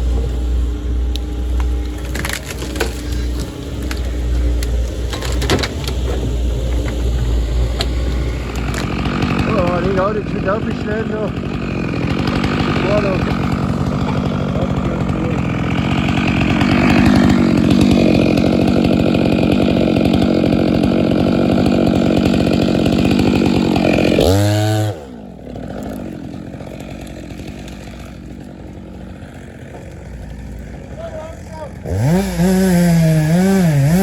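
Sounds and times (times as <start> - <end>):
chainsaw revving and idling: 0.0 - 34.0.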